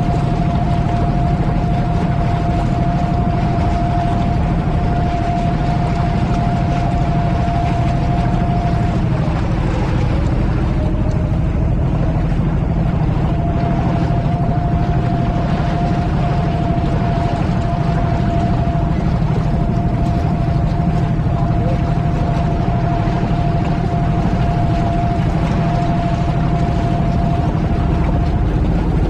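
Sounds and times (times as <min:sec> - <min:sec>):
boat motor running: 0:00.0 - 0:29.0
steady whine: 0:00.0 - 0:29.0
water rushing along hull: 0:00.0 - 0:29.0.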